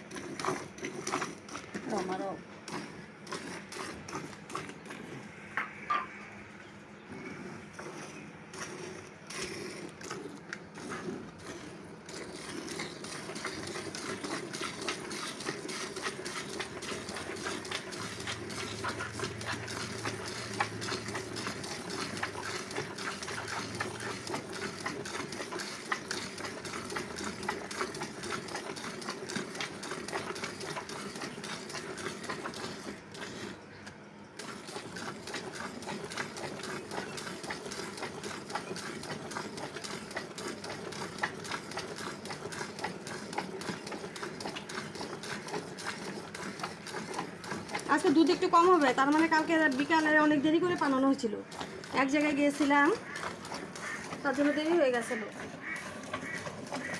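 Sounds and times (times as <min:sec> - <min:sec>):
milk squirting into a bucket: 0:00.0 - 0:05.5, 0:07.0 - 0:56.9.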